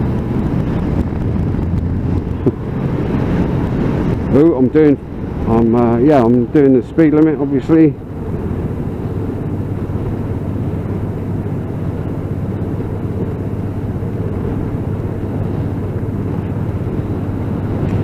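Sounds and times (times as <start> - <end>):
motorcycle engine drone: 0.0 - 18.0
wind rush: 0.0 - 18.0.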